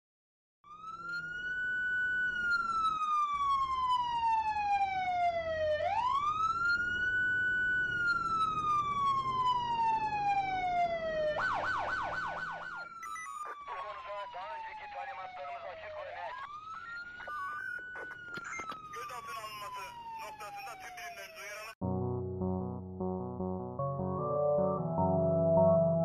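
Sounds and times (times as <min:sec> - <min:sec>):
siren wailing and yelping: 0:00.7 - 0:21.8.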